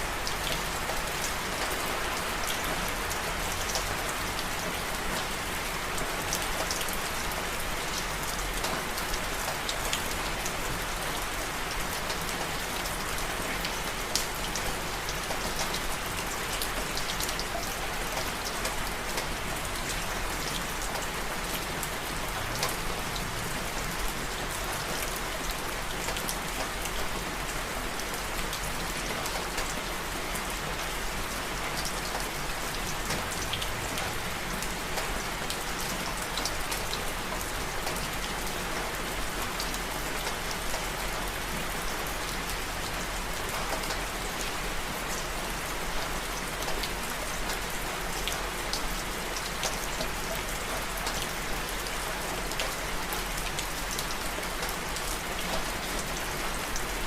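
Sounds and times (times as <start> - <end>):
rain drops pattering: 0.1 - 57.0.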